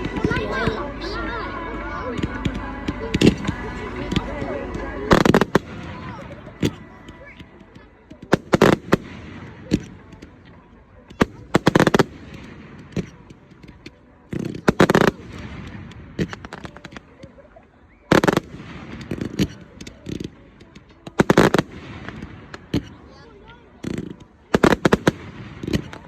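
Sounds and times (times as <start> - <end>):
fireworks crackling bangs: 2.0 - 17.4, 18.1 - 26.0.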